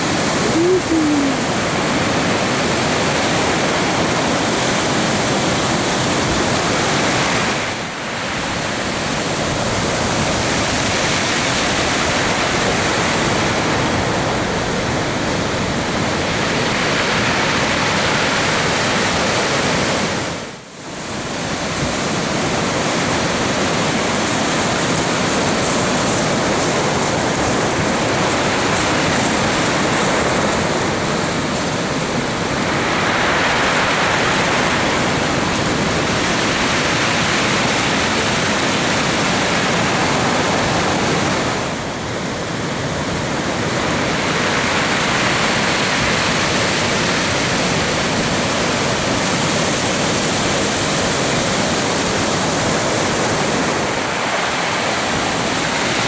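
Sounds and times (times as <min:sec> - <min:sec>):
heavy surf waves breaking: 0:00.0 - 0:56.0.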